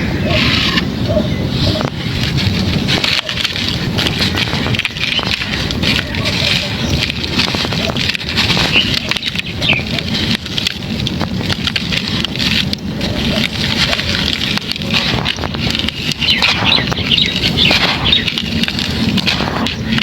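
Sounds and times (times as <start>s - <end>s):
birds chirping: 0.0s - 20.0s
crumbly material crushed by hand: 1.6s - 20.0s.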